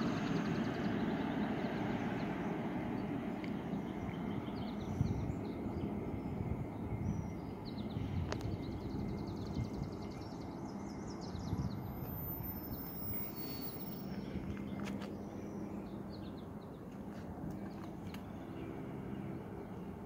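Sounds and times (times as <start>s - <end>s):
low outdoor rumble: 0.0s - 20.0s
small birds chirping: 0.0s - 20.0s.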